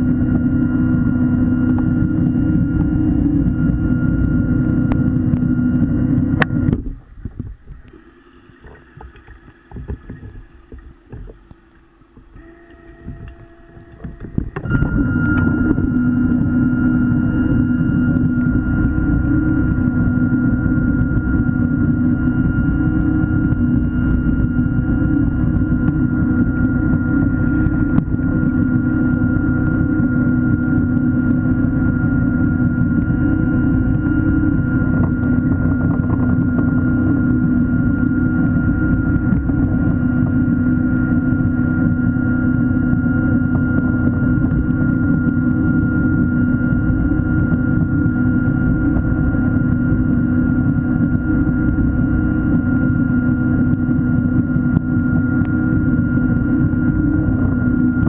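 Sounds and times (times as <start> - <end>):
underwater motor whining: 0.0 - 58.0.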